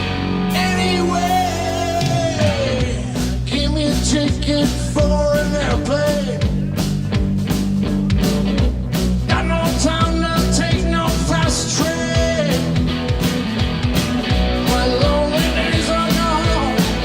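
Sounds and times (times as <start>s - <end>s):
bending lead guitar melody: 0.0s - 17.0s
blues-rock band playing: 0.0s - 17.0s
steady drum beat: 0.0s - 17.0s.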